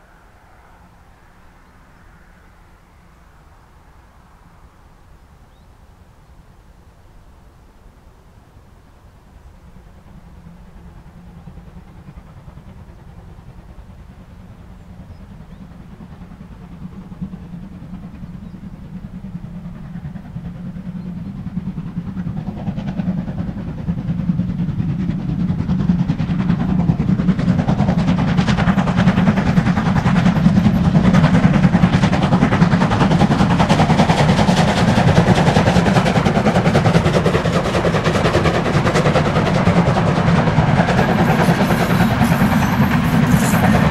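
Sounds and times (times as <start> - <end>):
steam locomotive hauling a train: 0.0 - 43.9.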